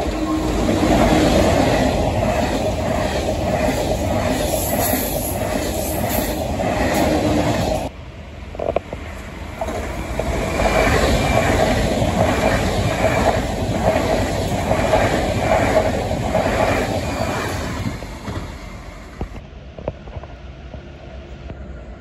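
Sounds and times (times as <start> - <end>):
high-speed train passing: 0.0 - 22.0.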